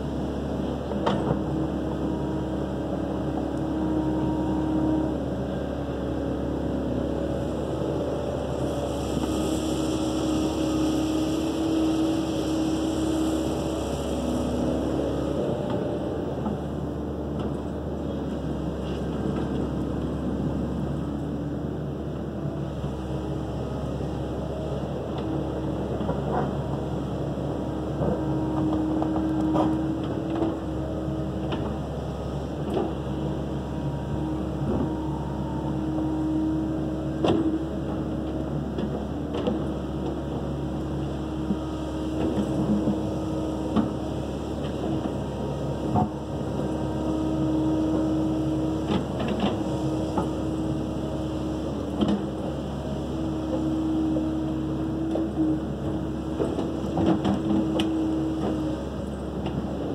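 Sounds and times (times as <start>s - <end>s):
excavator diesel engine running: 0.0s - 59.9s
hydraulic pump whine: 0.0s - 59.9s.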